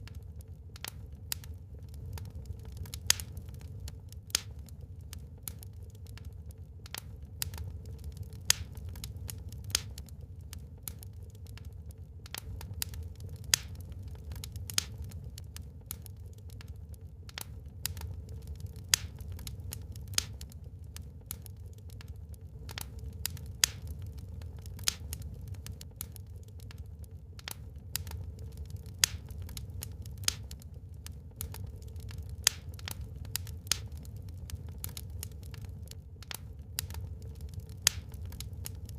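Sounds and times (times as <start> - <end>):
burning logs crackling: 0.0 - 38.9
low rumble of fire: 0.0 - 38.9.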